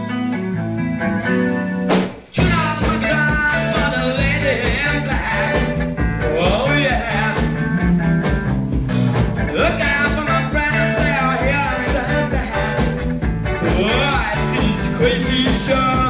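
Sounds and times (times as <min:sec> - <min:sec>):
rock and roll band playing: 0:00.0 - 0:16.0.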